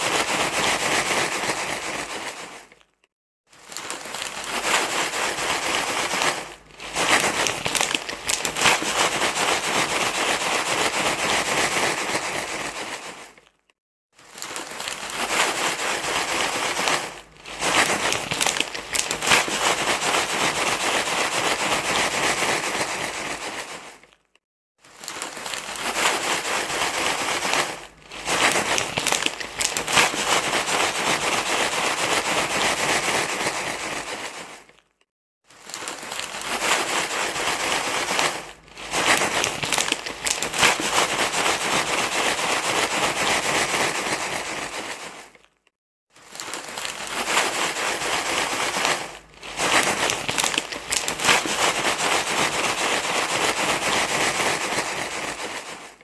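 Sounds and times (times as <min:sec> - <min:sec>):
crinkly rustling: 0:00.0 - 0:56.0.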